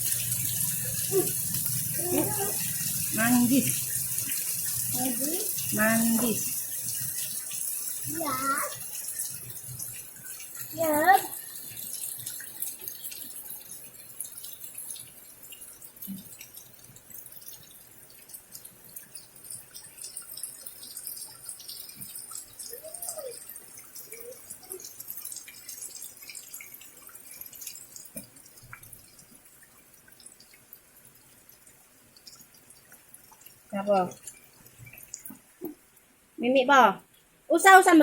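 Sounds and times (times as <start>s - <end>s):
rainwater dripping: 0.0s - 38.0s
steady rain hiss: 0.0s - 38.0s.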